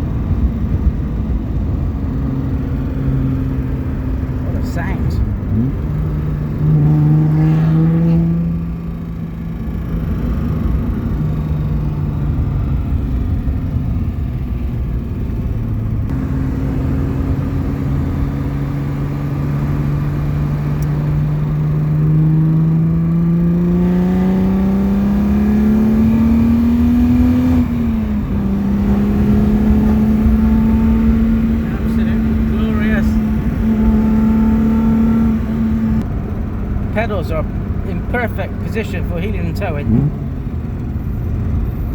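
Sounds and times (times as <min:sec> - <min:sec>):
car engine accelerating and shifting gears: 0:00.0 - 0:41.9.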